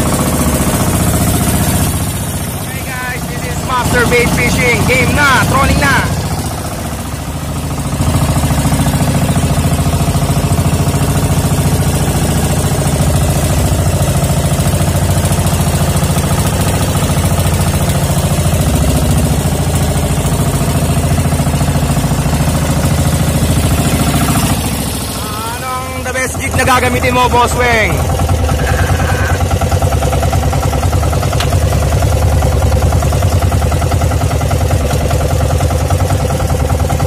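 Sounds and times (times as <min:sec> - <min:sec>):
boat engine knocking: 0:00.0 - 0:37.0.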